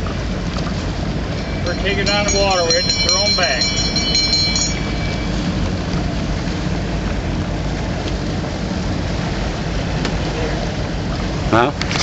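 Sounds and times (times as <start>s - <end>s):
boat engine drone: 0.0s - 11.5s.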